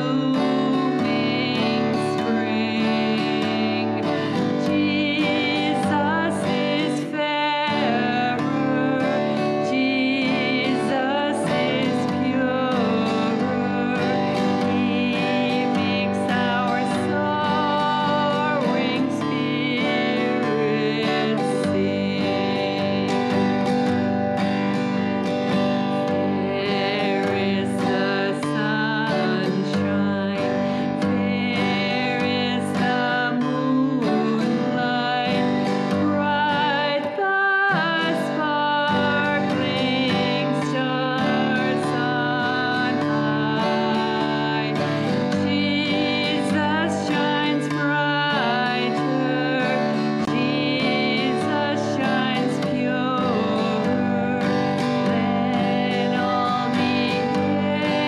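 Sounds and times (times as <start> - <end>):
strummed acoustic guitar: 0.0 - 58.0
woman singing with vibrato: 0.0 - 58.0.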